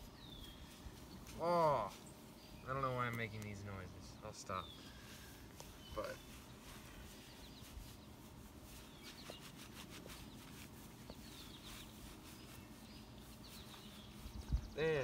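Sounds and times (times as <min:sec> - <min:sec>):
high falling bird chirps: 0:00.0 - 0:15.0.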